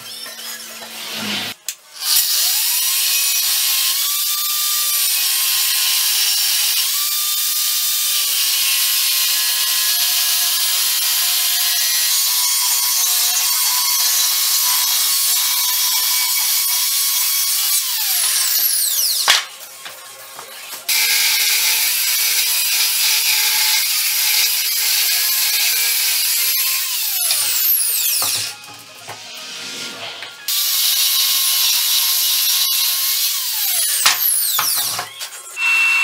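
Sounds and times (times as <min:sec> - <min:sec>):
angle grinder cutting steel: 0:00.0 - 0:36.0.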